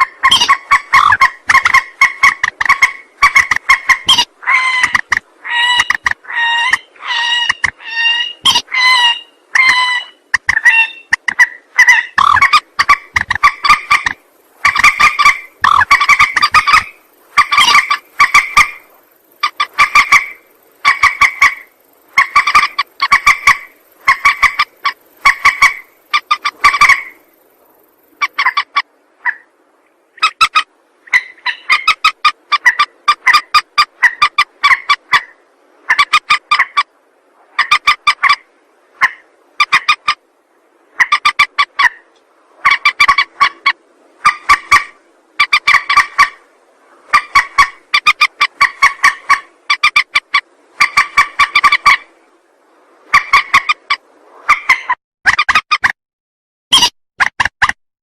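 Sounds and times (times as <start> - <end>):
waterbird cackling calls: 0.0 - 29.5, 30.1 - 36.9, 37.5 - 40.3, 40.9 - 52.2, 53.0 - 55.9.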